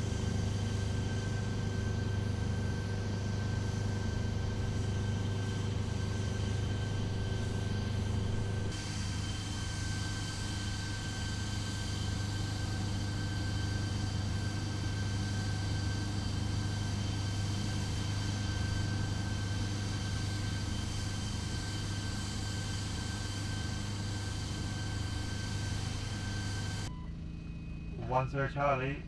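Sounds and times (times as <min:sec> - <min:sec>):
engine drone: 0:00.0 - 0:29.0
high whine: 0:00.0 - 0:29.0.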